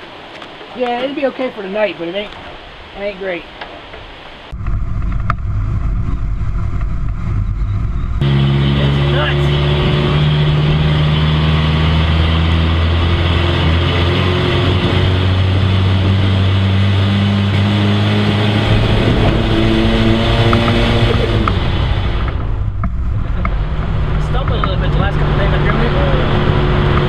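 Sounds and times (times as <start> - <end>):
car engine running: 4.5 - 27.0.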